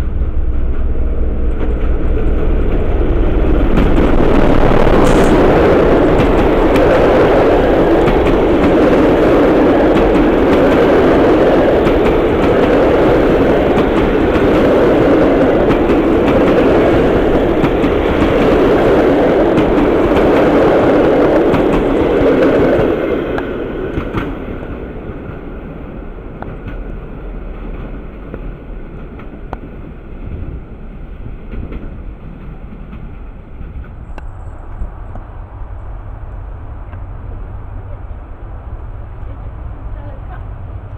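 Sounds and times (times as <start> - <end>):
train passing at speed: 0.0 - 40.9.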